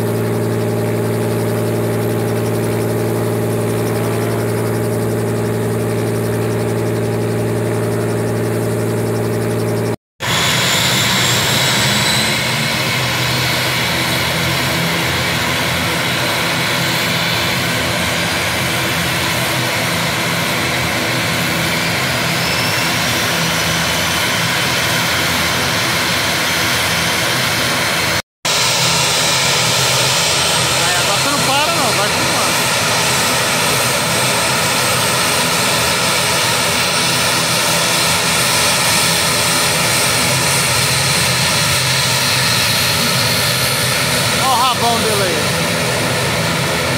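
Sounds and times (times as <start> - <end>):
helicopter engine idling: 0.0 - 46.9
turboprop engines droning: 0.0 - 46.9.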